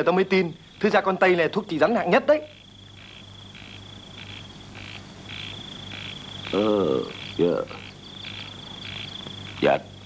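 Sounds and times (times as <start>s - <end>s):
insects and frogs trilling: 0.0s - 10.0s.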